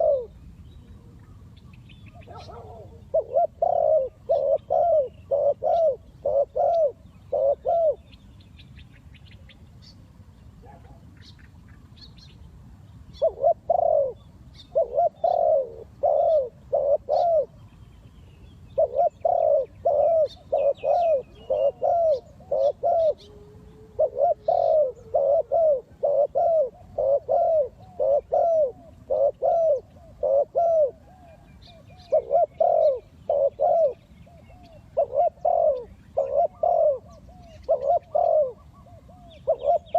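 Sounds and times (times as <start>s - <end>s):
dove cooing: 0.0s - 1.5s, 2.1s - 8.2s, 13.1s - 17.7s, 18.7s - 39.9s
small birds chirping: 0.0s - 39.9s.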